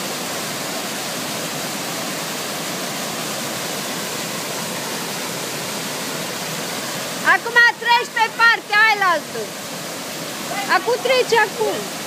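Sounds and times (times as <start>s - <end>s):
white water rushing over boulders: 0.0s - 12.0s.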